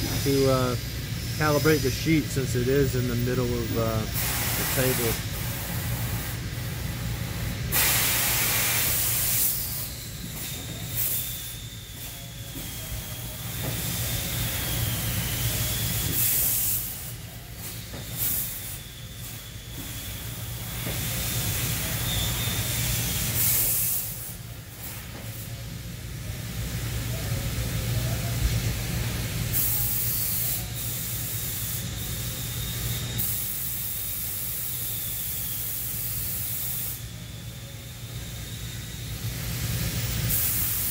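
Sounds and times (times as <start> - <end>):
hissing assist gas bursts: 0.0 - 25.9, 29.5 - 37.4, 39.1 - 40.9.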